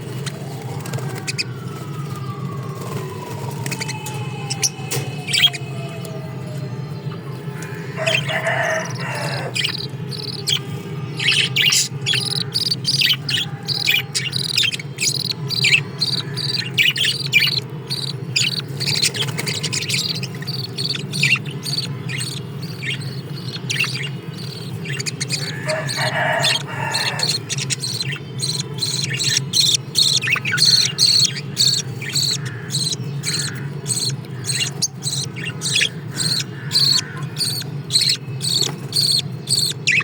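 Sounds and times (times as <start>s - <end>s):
cage birds chirping: 0.0s - 40.0s
steady low hum: 0.0s - 40.0s
harsh lower bird call: 7.6s - 40.0s.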